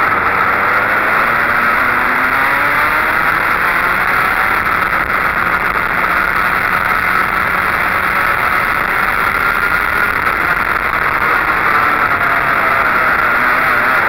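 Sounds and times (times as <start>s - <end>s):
go-kart engine running hard: 0.0s - 14.0s.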